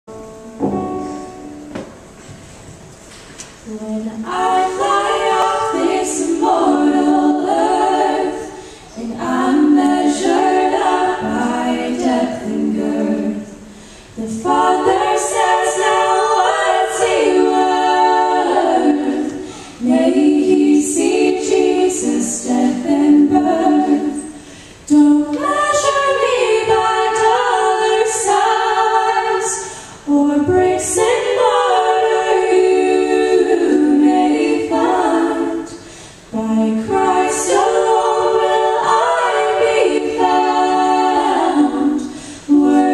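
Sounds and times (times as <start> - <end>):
women singing into microphones: 3.4 - 42.9.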